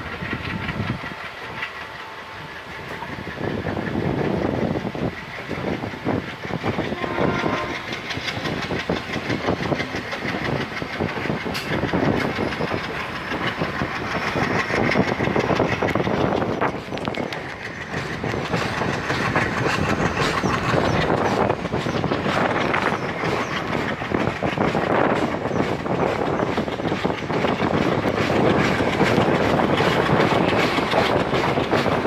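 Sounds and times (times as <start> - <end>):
train wheels rumbling on rails: 0.0 - 32.0
wheels clattering over rail joints: 0.0 - 32.0.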